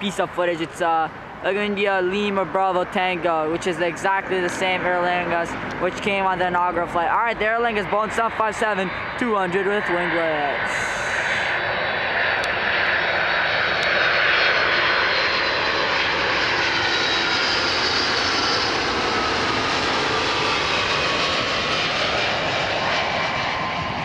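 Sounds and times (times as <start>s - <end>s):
high engine whine: 0.0s - 24.0s
jet engines roaring: 0.0s - 24.0s.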